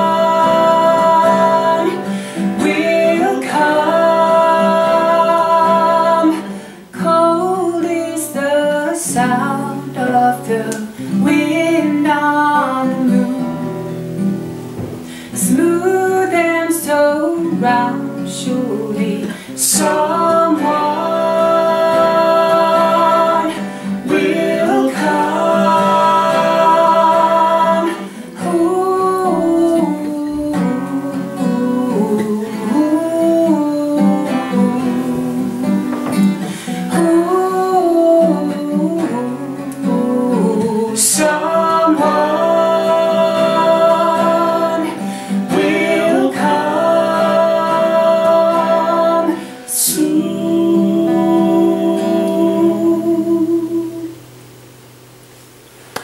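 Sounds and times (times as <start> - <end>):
man and woman singing: 0.0 - 13.9, 15.0 - 54.2
acoustic guitar strummed: 0.0 - 55.2.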